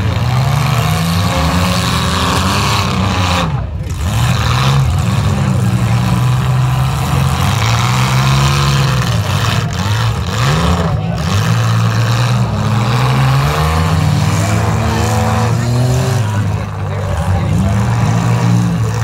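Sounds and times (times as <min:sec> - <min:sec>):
car engines revving hard: 0:00.0 - 0:19.0.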